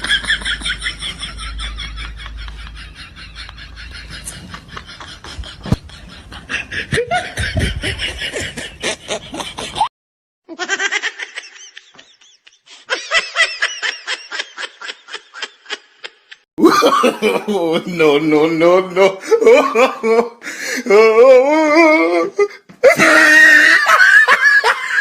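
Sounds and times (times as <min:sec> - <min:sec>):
person laughing: 0:00.0 - 0:09.9, 0:10.5 - 0:17.9, 0:18.8 - 0:25.0.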